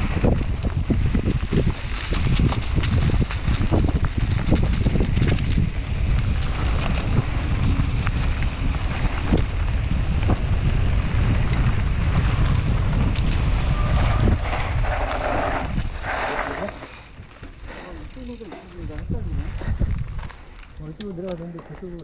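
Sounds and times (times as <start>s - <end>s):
bike knocking and rattling: 0.0s - 22.0s
wind buffeting microphone: 0.0s - 22.0s.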